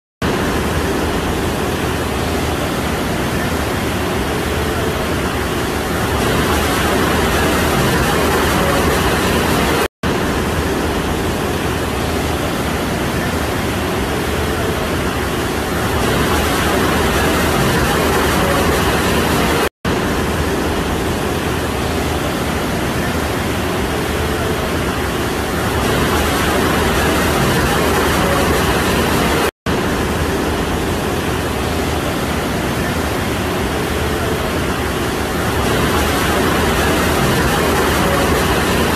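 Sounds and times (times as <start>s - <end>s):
floodwater rushing: 0.3s - 38.9s.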